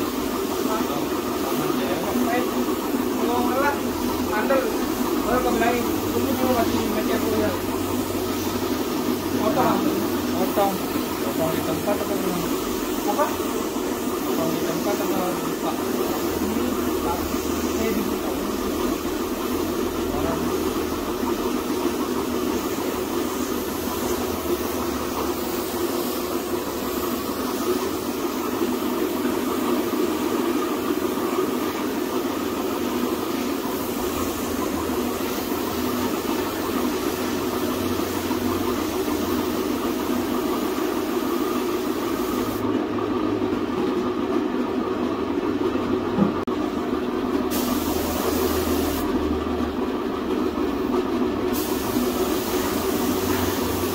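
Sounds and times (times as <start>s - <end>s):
hiss: 0.0s - 42.7s, 47.4s - 49.1s, 51.5s - 53.9s.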